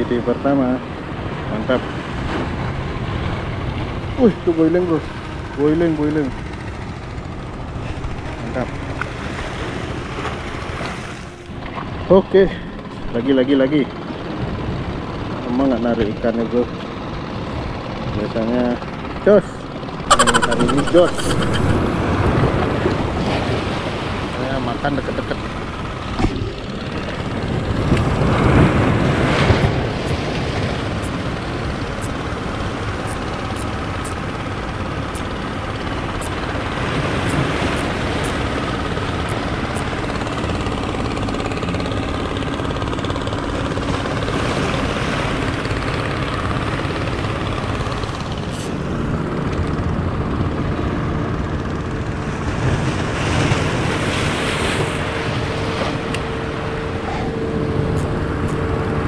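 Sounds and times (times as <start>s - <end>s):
motorboats droning: 0.0s - 59.0s.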